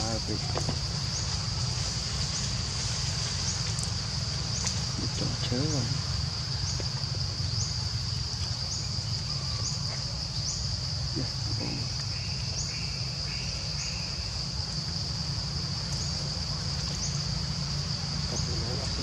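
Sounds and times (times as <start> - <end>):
insects droning: 0.0 - 19.0
low steady rumble: 0.0 - 19.0.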